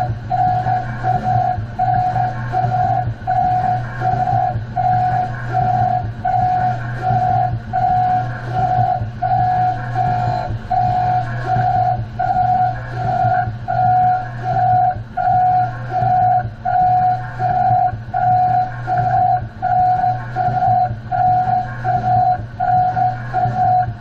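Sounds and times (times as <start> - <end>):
machinery low hum: 0.0 - 24.0
pulsing whining tone: 0.0 - 24.0.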